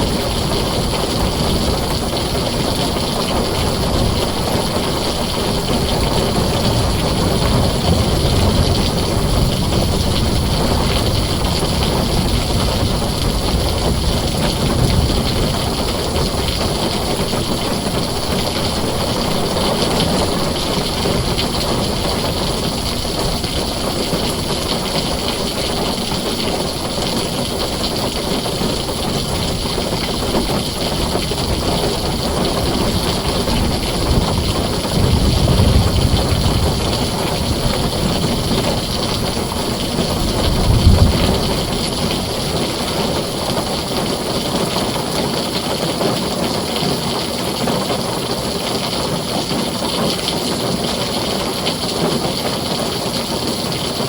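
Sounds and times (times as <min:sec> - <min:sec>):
low thunder rumbles: 0:00.0 - 0:46.1
heavy rain on a tin roof: 0:00.0 - 0:54.0.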